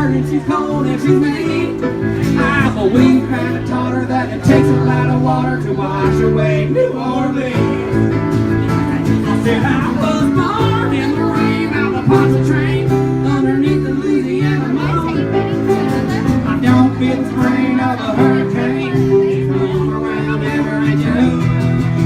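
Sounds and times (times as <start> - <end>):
person singing: 0.0 - 8.3, 9.0 - 22.0
band playing country song: 0.0 - 22.0
guitar: 0.0 - 22.0.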